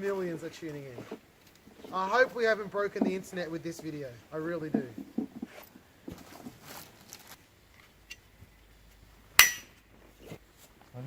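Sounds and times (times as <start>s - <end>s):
faint rustling: 0.0s - 11.0s.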